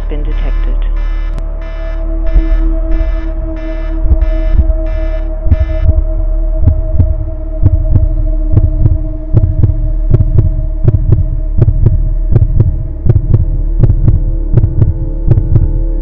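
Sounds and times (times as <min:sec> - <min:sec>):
humming drone: 0:00.0 - 0:16.0
heartbeat double thump: 0:00.3 - 0:15.8.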